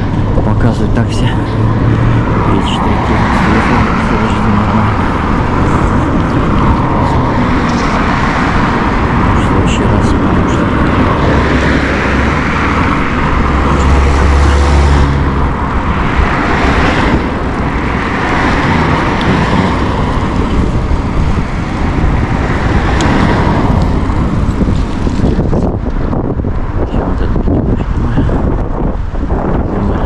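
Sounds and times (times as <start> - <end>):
cars passing on road: 0.0 - 30.0
heavy low rumble: 0.0 - 30.0
wind on microphone: 0.0 - 30.0.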